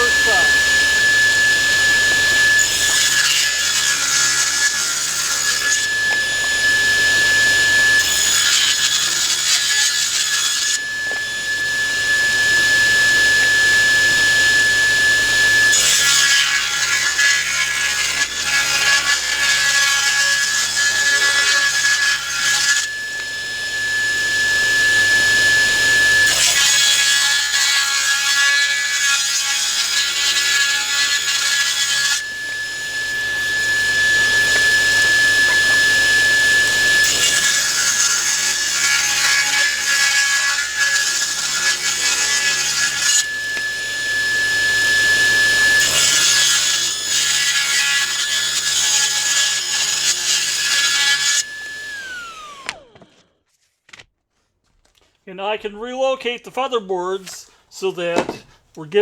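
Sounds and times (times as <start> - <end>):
power saw motor whine: 0.0 - 53.3
saw rasping through wood: 0.0 - 53.3.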